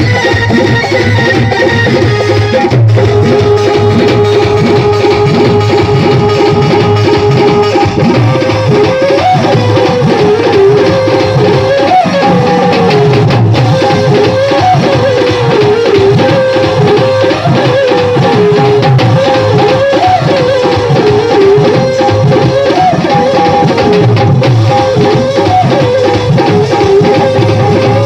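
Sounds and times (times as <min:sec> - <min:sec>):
drum rhythm: 0:00.0 - 0:28.0
electronic keyboard melody: 0:00.0 - 0:28.0.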